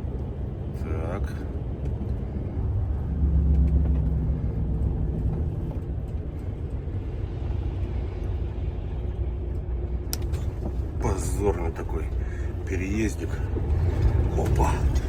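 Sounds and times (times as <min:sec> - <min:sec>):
road noise: 0:00.0 - 0:15.0
truck diesel engine in cab: 0:00.0 - 0:15.0.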